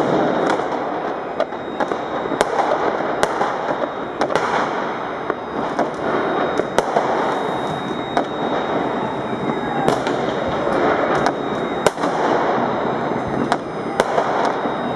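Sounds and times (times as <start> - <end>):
fireworks crackling and rumbling: 0.0 - 14.9
sharp firecracker bangs: 0.0 - 14.9.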